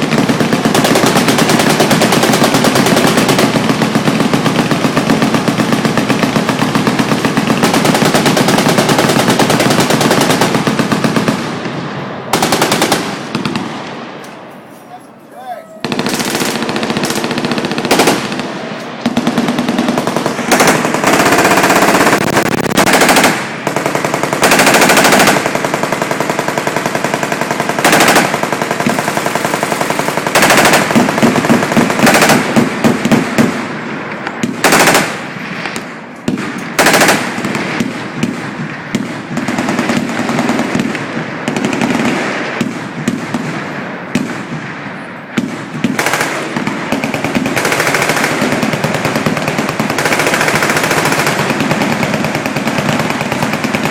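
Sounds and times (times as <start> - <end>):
machine guns firing: 0.0 - 14.5, 15.8 - 53.9.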